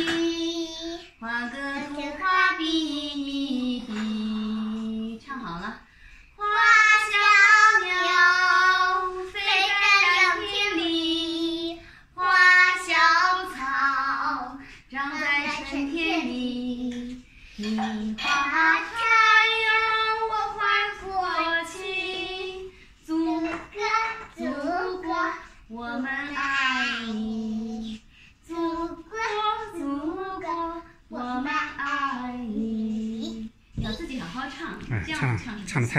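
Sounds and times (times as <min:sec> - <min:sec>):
girl singing: 0:00.0 - 0:35.4.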